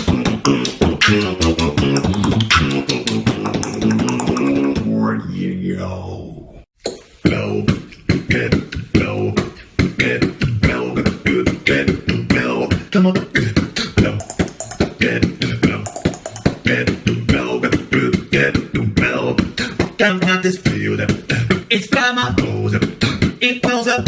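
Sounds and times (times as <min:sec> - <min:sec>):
person beatboxing: 0:00.0 - 0:05.0, 0:07.2 - 0:24.0.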